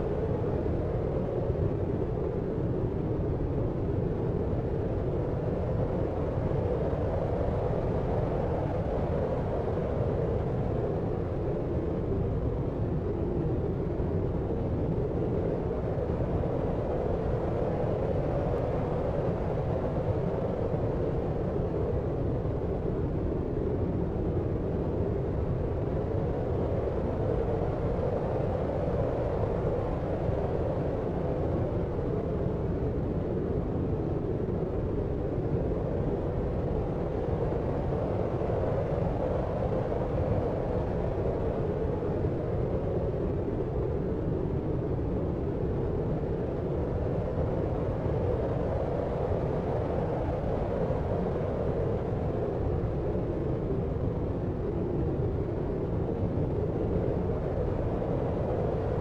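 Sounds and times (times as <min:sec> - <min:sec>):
low rumbling brown noise: 0:00.0 - 0:59.0.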